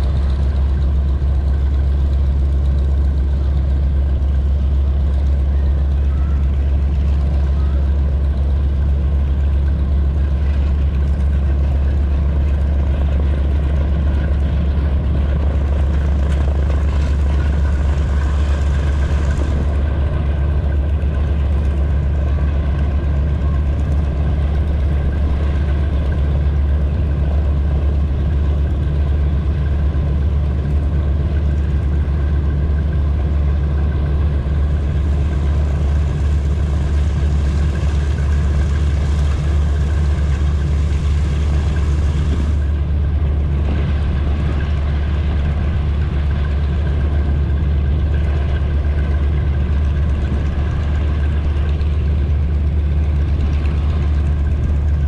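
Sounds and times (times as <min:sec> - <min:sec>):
radial aircraft engines droning: 0:00.0 - 0:55.0.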